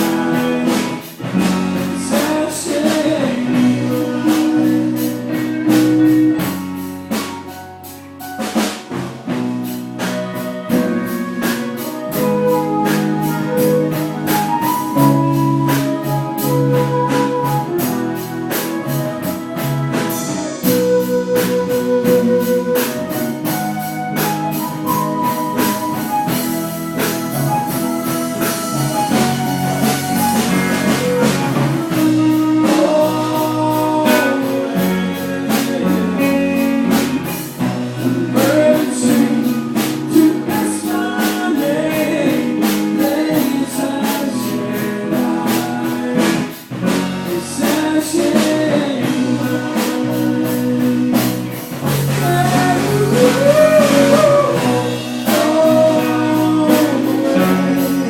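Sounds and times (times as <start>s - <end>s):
person singing: 0.0s - 7.8s, 9.7s - 58.0s
drum kit beat: 0.0s - 58.0s
electric guitar: 0.0s - 58.0s.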